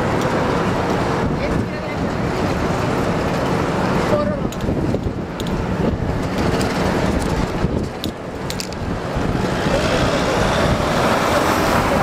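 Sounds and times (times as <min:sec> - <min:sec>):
bus running noise: 0:00.0 - 0:12.0
street traffic: 0:00.0 - 0:12.0
wind buffeting microphone: 0:00.0 - 0:12.0.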